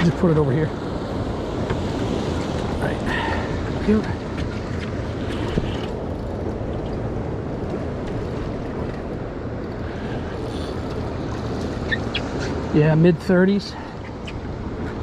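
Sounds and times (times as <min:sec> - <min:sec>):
boat engine idling hum: 0:00.0 - 0:15.0.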